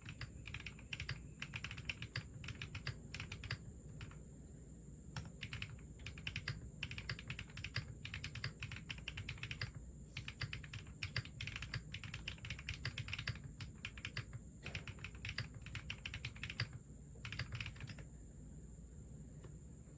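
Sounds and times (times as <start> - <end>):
fast typing on mechanical keyboard: 0.0 - 4.2, 5.2 - 18.1.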